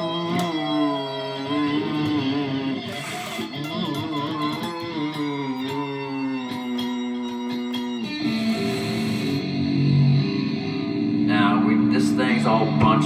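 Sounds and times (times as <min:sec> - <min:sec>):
electric guitar lead lines: 0:00.0 - 0:13.0.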